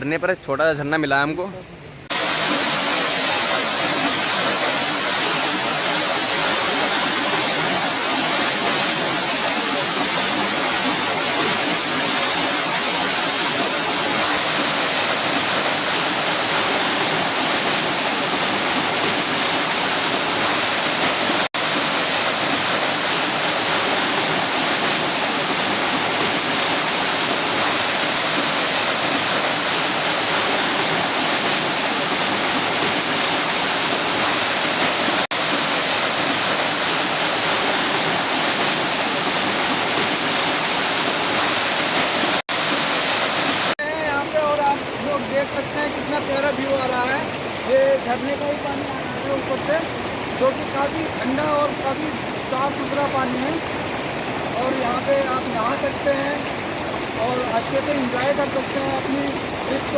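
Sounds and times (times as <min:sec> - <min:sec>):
small waterfall pouring: 0:02.1 - 0:59.9.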